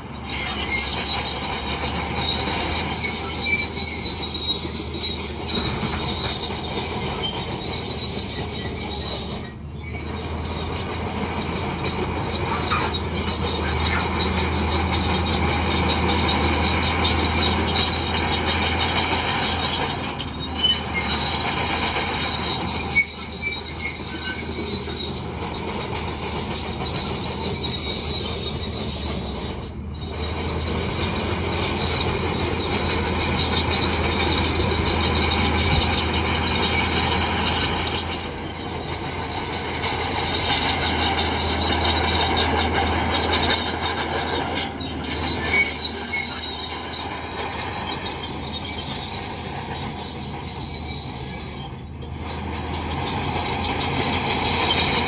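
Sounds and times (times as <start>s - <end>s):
bulldozer diesel engine drone: 0.0s - 55.0s
steel tracks squealing and clanking: 0.0s - 55.0s.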